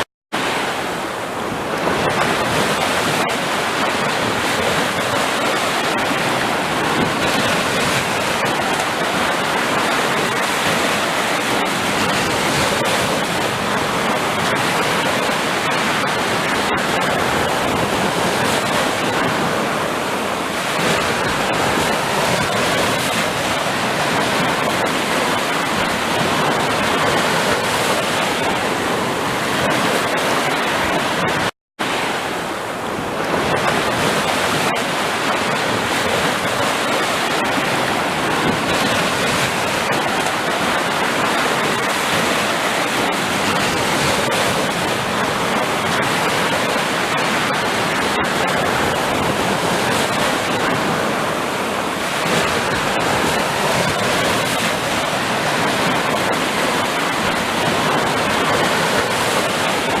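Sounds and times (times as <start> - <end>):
breaking waves: 0.0 - 60.0.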